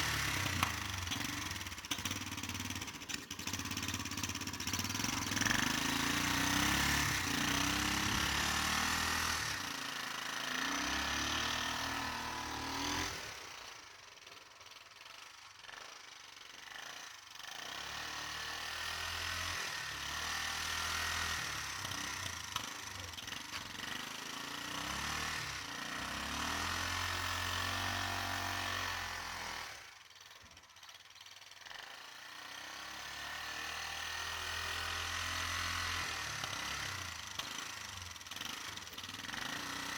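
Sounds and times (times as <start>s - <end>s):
atv engine revving: 0.0s - 13.7s, 16.6s - 30.0s, 31.6s - 39.9s.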